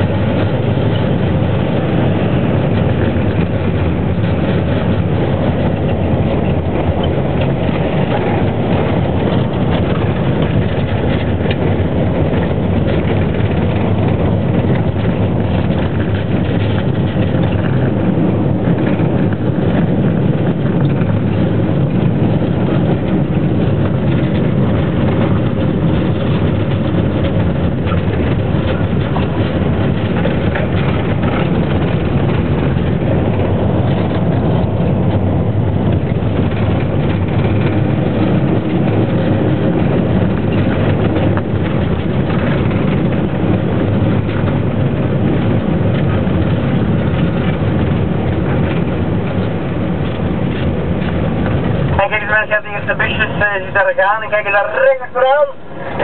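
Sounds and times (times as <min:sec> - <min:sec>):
vehicle engine and road rumble: 0:00.0 - 0:56.0.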